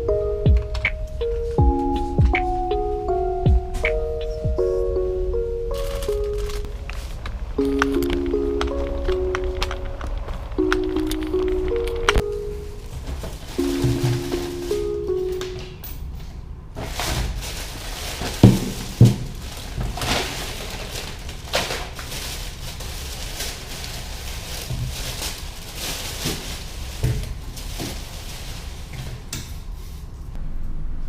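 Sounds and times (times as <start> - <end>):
low room rumble: 0.0 - 31.0.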